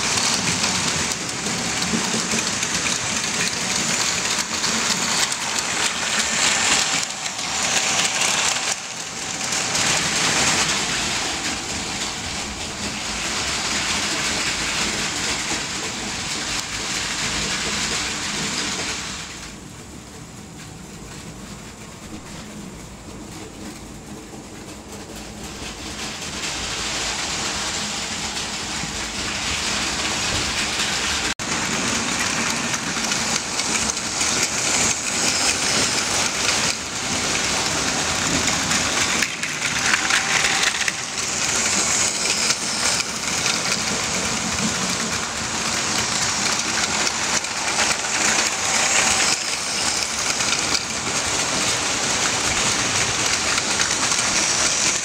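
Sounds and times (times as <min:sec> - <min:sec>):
toy trains rattling whir: 0:00.0 - 0:19.5, 0:24.0 - 0:55.0.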